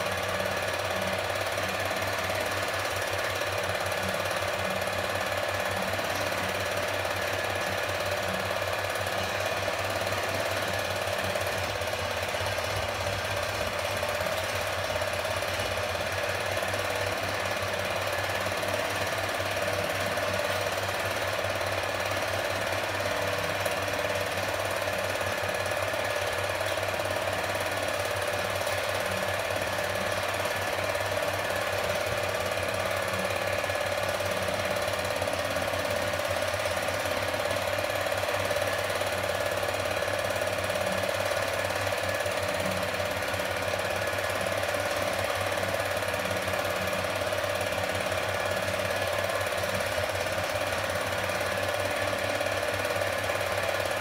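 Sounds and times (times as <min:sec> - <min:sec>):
film projector clattering: 0:00.0 - 0:54.0
projector hum: 0:00.0 - 0:54.0.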